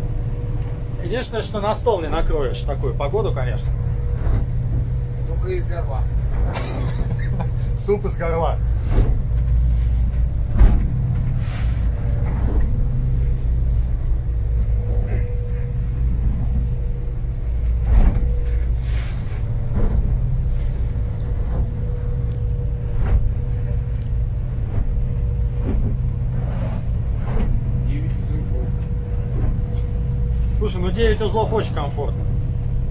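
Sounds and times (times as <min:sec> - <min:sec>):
boat engine droning: 0:00.0 - 0:32.9
waves hitting hull: 0:00.0 - 0:32.9.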